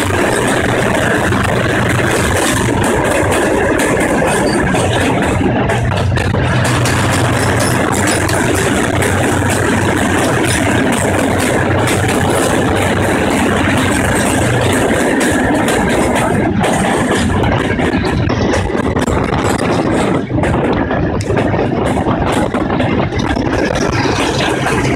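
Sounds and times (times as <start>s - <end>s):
train rumbling through tunnel: 0.0s - 24.9s.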